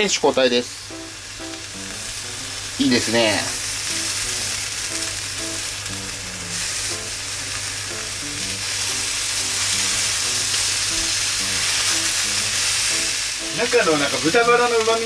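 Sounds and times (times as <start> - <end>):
light background music: 0.0 - 15.0
oil sizzling in a frying pan: 0.0 - 15.0.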